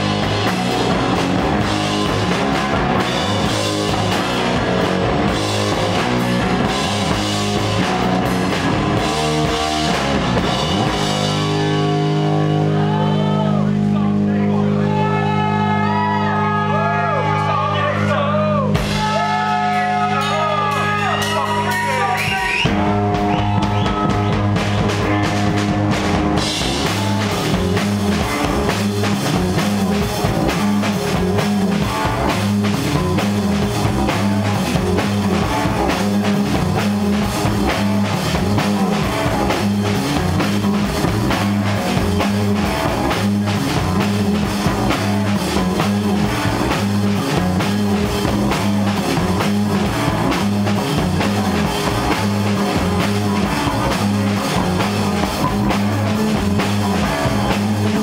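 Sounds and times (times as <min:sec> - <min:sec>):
drum kit beat: 0:00.0 - 0:13.2, 0:18.6 - 0:58.0
bass guitar riff: 0:00.0 - 0:58.0
distorted electric guitars: 0:00.0 - 0:58.0.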